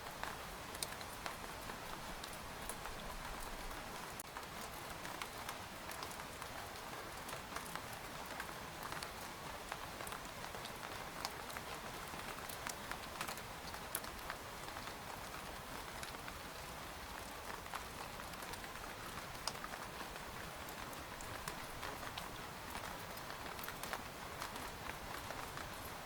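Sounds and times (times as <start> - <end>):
rain drops tapping tent fabric: 0.0 - 26.0
soft rain hiss: 0.0 - 26.0.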